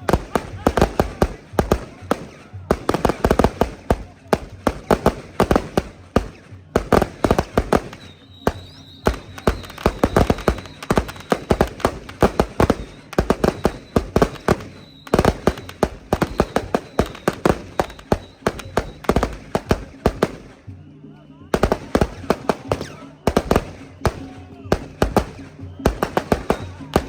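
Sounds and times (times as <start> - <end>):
firecrackers banging: 0.0 - 20.9, 21.5 - 27.0.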